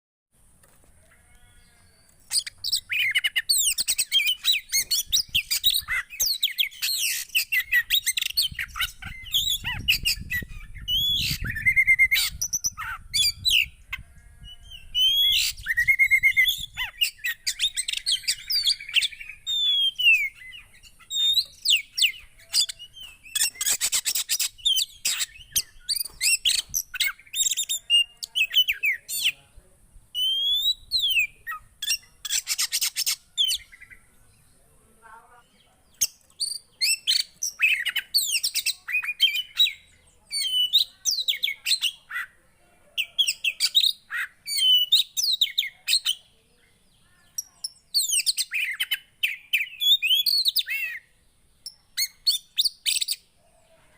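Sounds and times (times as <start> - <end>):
songbird singing: 0.4 - 53.9.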